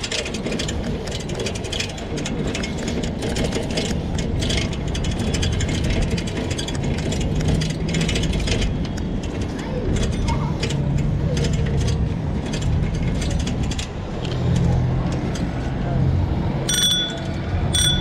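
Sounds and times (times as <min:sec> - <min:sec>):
bike frame and basket rattling: 0:00.0 - 0:15.7, 0:16.6 - 0:18.0
bike rolling on pavement: 0:00.0 - 0:18.0.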